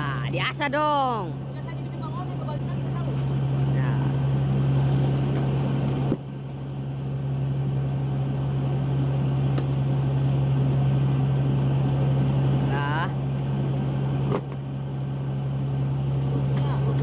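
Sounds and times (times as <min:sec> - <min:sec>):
boat machinery droning: 0:00.0 - 0:17.0.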